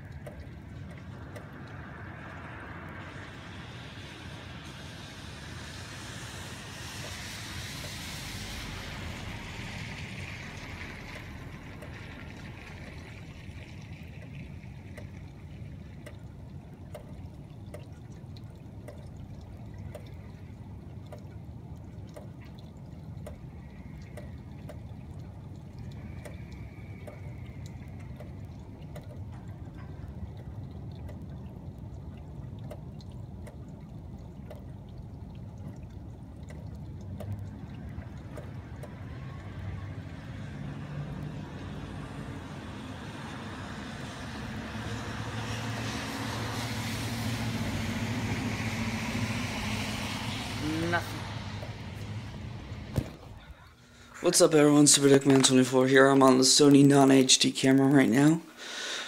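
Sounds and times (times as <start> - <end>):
rain falling: 0.0 - 59.0
water dripping and trickling: 0.0 - 59.0.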